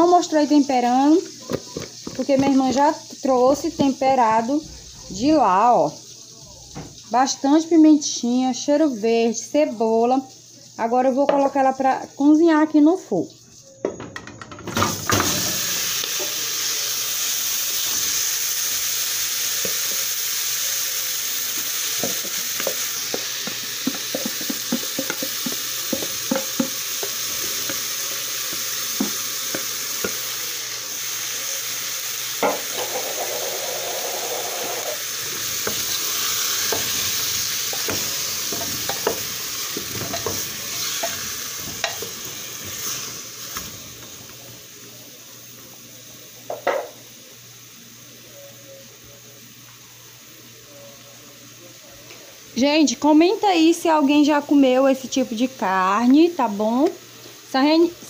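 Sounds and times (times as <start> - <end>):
meat sizzling in hot pot: 0.0 - 58.0.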